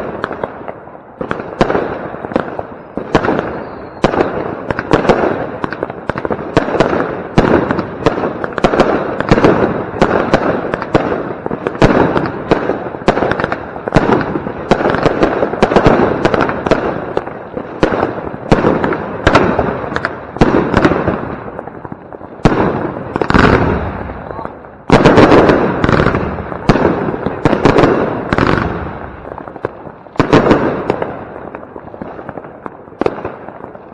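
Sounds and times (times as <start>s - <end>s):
firework crackling: 0.0s - 33.9s
firework shots and bangs: 0.0s - 33.9s.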